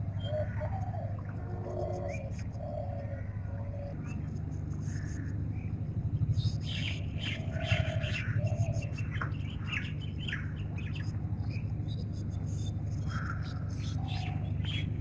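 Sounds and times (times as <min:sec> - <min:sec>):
birds chirping: 0:00.0 - 0:15.0
low pulsing hum: 0:00.0 - 0:15.0.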